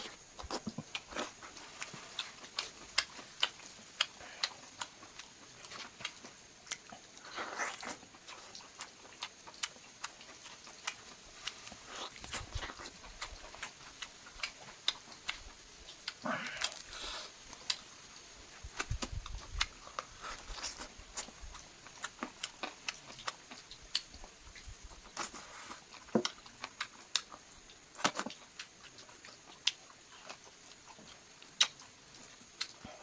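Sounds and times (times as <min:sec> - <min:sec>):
chewing crunch: 0:00.0 - 0:33.0
chewing with mouth smacks: 0:00.0 - 0:33.0.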